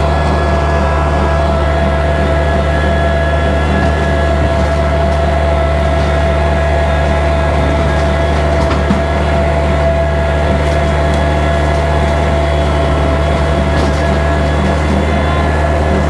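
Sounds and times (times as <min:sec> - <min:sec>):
steady whine: 0:00.0 - 0:16.0
tractor diesel engine running: 0:00.0 - 0:16.0.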